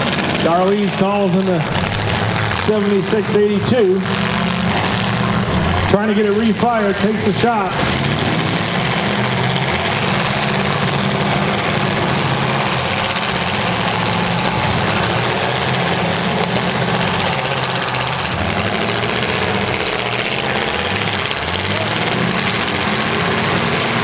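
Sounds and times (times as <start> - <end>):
car engines droning: 0.0 - 24.0.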